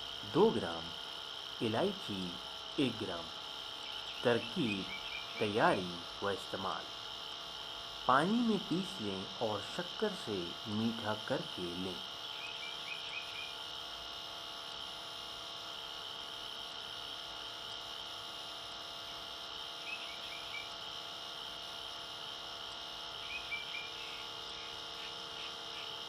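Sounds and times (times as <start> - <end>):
background hum and hiss: 0.0 - 26.0.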